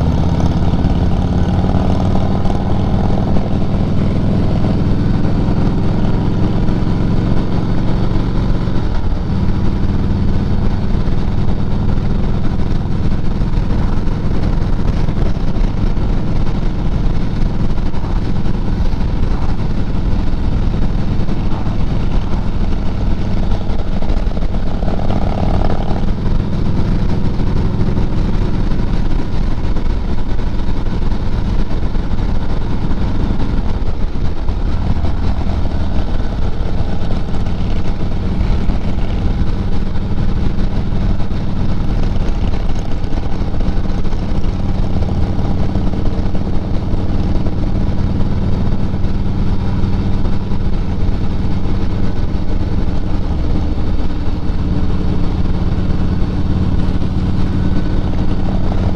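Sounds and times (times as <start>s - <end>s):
road and wind noise: 0.0s - 58.9s
vehicle engine hum: 0.0s - 58.9s.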